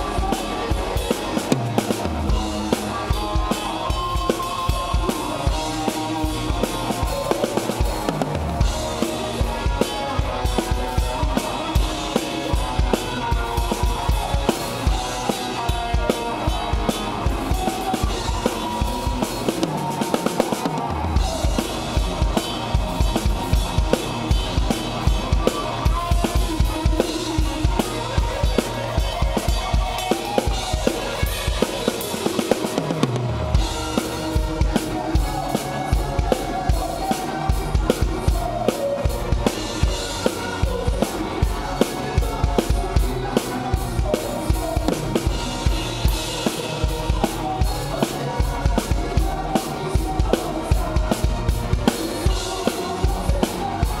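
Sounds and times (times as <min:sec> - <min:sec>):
electric guitar: 0:00.0 - 0:54.0
rock band playing live: 0:00.0 - 0:54.0.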